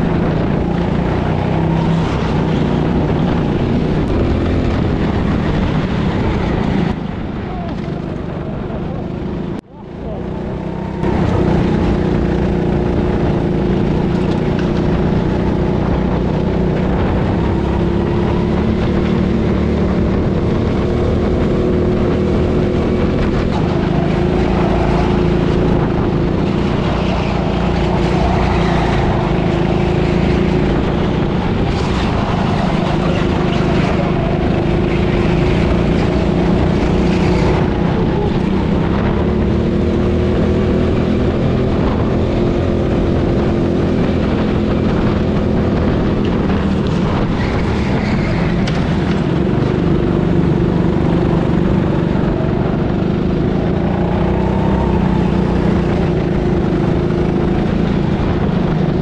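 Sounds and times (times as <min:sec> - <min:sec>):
go-kart motor drone: 0:00.0 - 0:59.0
wind noise: 0:00.0 - 0:59.0.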